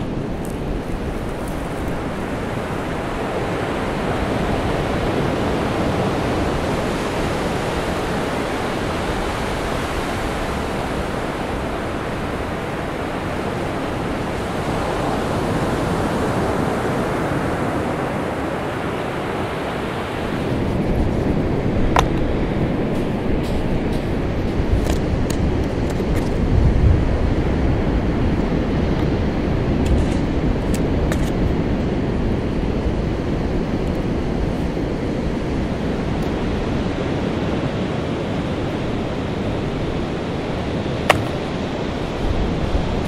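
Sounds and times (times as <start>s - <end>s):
ocean surf washing ashore: 0.0s - 43.0s.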